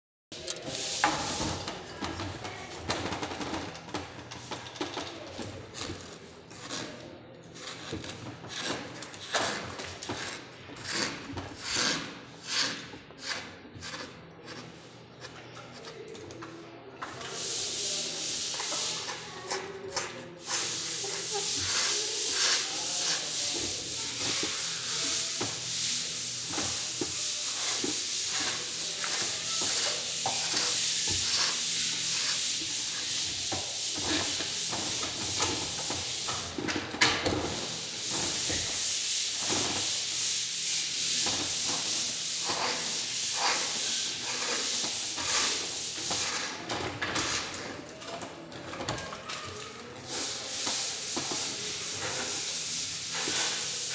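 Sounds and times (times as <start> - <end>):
plastering tool scraping ceiling: 0.4 - 16.4, 17.0 - 53.9.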